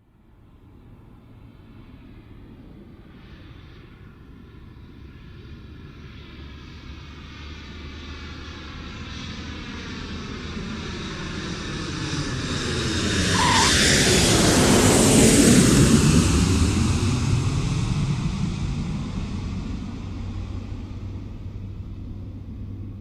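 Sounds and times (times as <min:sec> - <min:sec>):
airplane flying past: 0:01.2 - 0:23.0.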